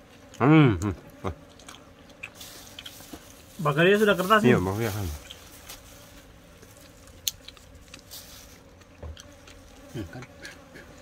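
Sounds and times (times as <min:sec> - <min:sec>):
flies buzzing faintly: 0:00.0 - 0:11.0.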